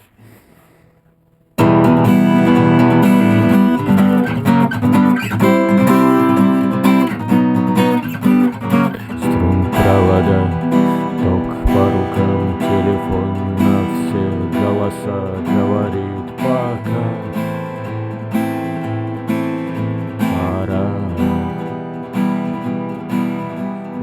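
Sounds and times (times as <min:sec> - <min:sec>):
acoustic guitar strumming: 0:00.4 - 0:24.0.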